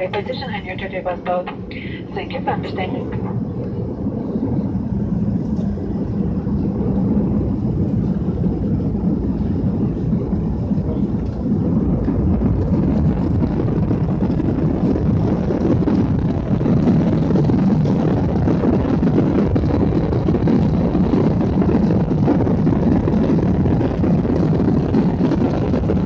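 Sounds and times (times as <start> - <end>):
jet engine roar in cabin: 0.0 - 26.0.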